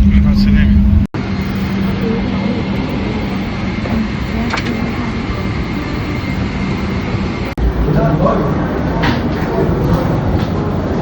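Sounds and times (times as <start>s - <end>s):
vehicle interior drone: 0.0s - 11.0s.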